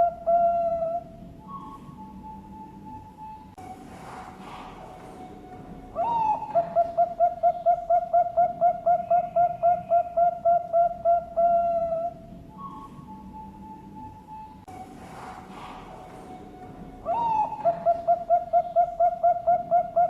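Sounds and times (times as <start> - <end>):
dove cooing: 0.0 - 3.3, 4.4 - 14.8, 15.5 - 20.0.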